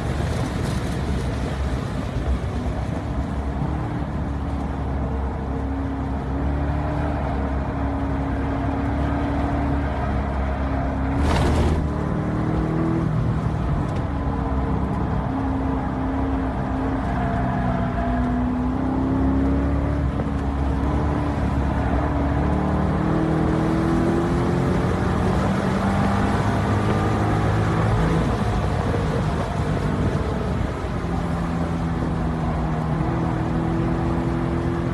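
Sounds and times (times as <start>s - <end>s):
car engine running hard: 0.0s - 34.9s.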